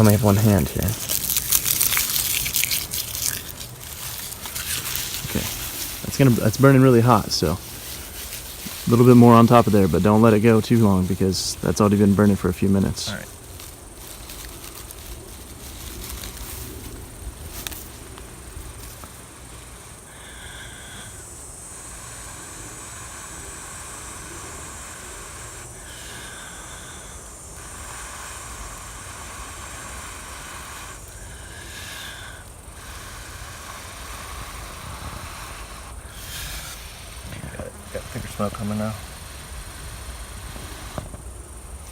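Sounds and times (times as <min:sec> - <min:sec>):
person blowing steady breaths: 0:00.0 - 0:41.9.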